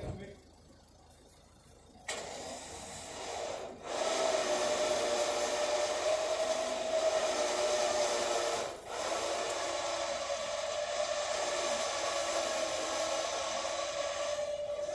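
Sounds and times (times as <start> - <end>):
hydraulic pump whining: 1.5 - 14.9.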